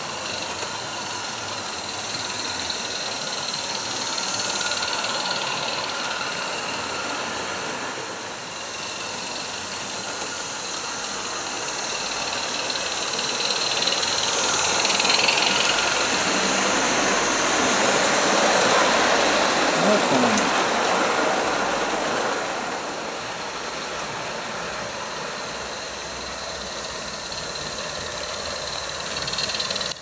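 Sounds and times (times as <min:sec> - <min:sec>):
steam locomotive rattling and hissing: 0:00.0 - 0:30.0.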